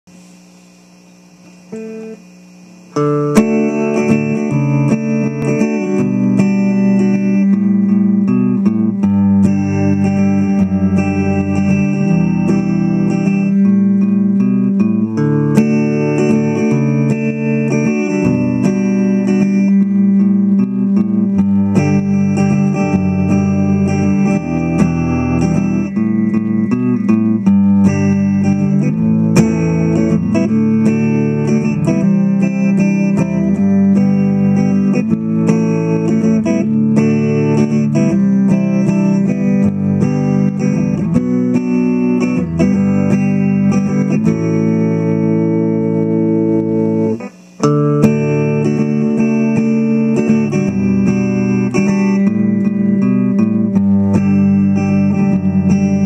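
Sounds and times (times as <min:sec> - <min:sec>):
plucked guitar notes: 0:01.7 - 0:56.0.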